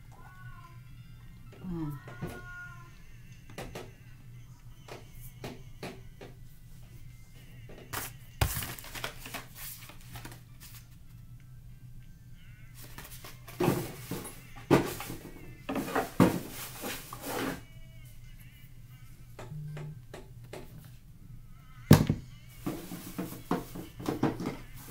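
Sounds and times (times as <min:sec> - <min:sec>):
faint background music: 0:00.0 - 0:24.9.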